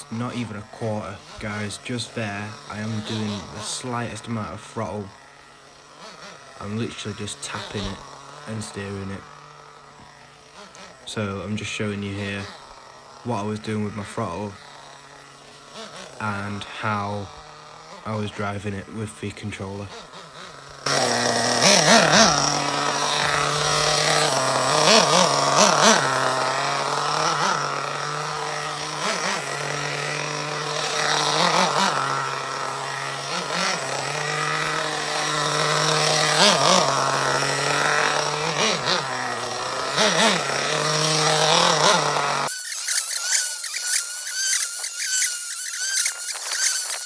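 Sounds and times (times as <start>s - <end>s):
high-pitched engine whine: 0.0s - 47.0s
rc buggy nitro engine running: 0.0s - 47.0s.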